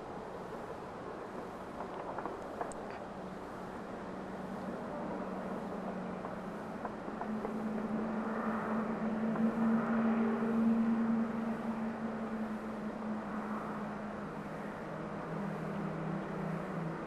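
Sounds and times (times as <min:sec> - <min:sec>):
distant electric train hum: 0:00.0 - 0:17.0.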